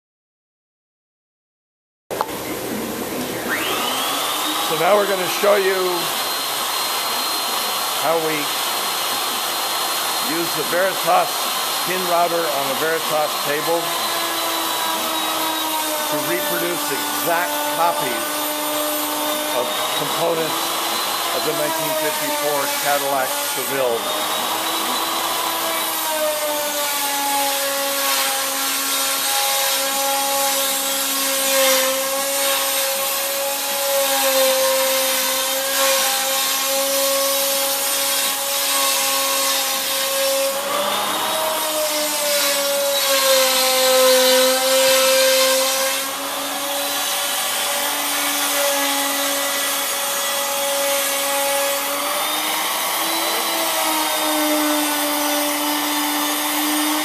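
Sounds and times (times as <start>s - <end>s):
power tool motor whining: 3.2s - 57.0s.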